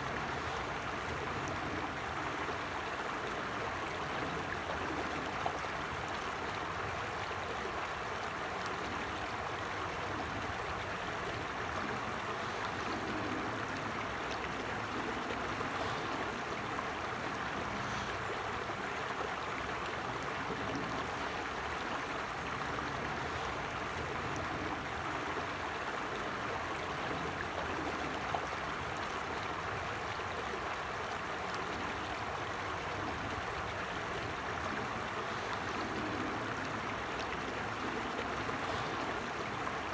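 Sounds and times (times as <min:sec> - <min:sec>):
creek water running over stones: 0:00.0 - 0:39.9.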